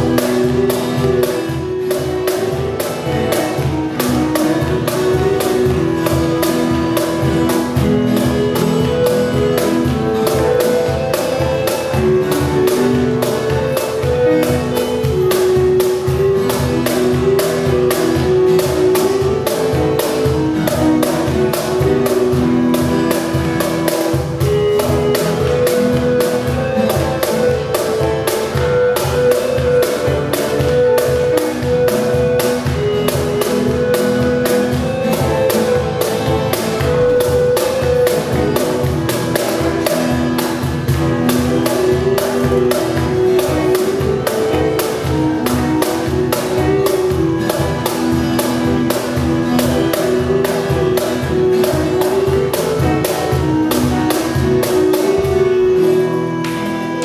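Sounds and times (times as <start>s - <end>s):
acoustic guitar: 0.0s - 57.0s
hand-drummed cajon beat: 0.0s - 57.0s
keyboard held notes: 0.0s - 57.0s.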